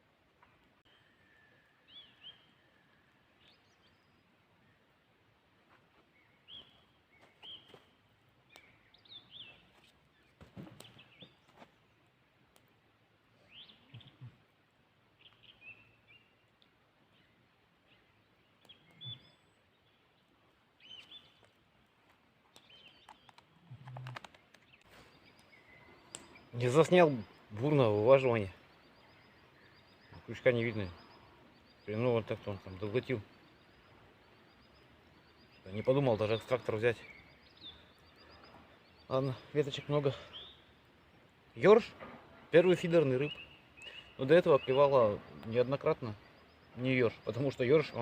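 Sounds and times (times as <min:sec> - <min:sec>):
small bird chirps: 0:05.9 - 0:11.7, 0:13.4 - 0:48.0.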